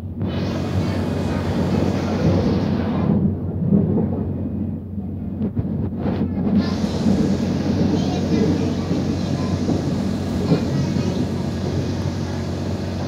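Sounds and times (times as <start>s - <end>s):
train rumbling through tunnel: 0.0s - 13.0s.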